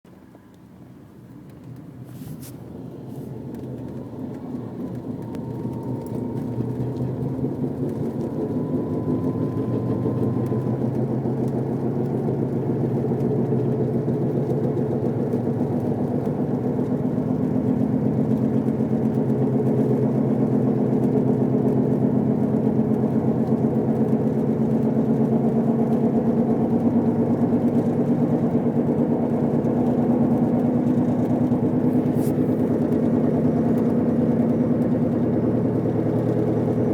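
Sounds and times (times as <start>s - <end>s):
car grinding whining drone: 2.4s - 36.9s.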